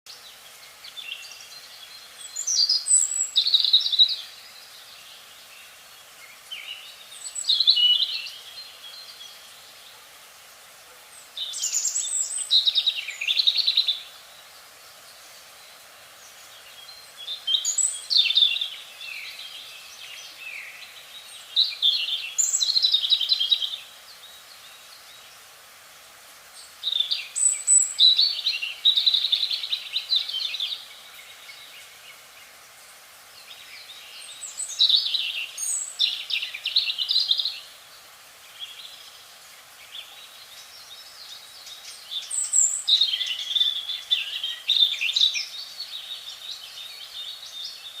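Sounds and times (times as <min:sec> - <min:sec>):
faint steady hiss: 0:00.1 - 0:48.0.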